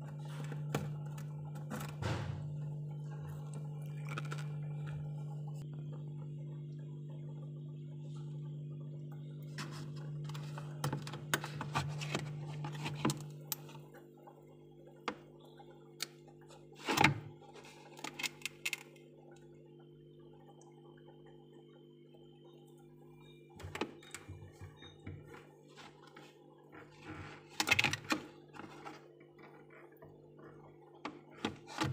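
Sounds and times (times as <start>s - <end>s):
low hum: 0.0s - 31.9s.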